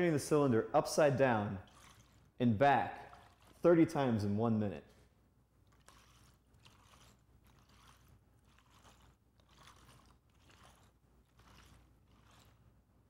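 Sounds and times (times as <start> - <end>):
liquid sloshing in cylinder: 0.0 - 13.0.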